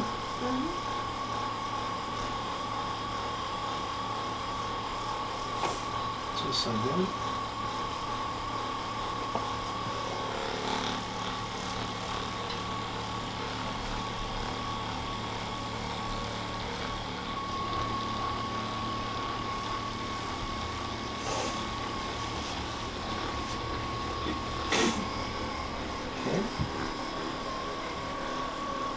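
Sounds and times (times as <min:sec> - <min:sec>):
percussion massager motor whine: 0:00.0 - 0:28.9.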